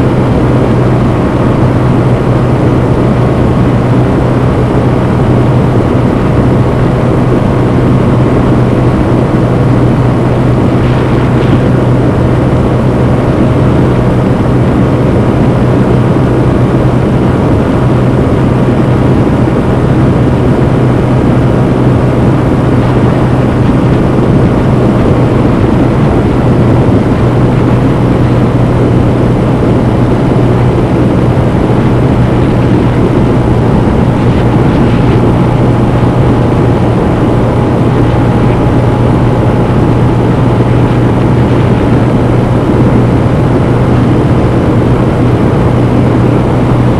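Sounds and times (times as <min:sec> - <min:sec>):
motorcycle engine pulling steadily: 0:00.0 - 0:46.9
road and air noise: 0:00.0 - 0:46.9.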